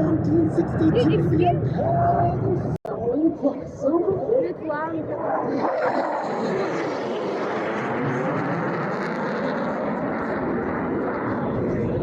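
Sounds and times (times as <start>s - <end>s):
airplane engine rushing: 0.0s - 2.8s, 3.5s - 12.0s.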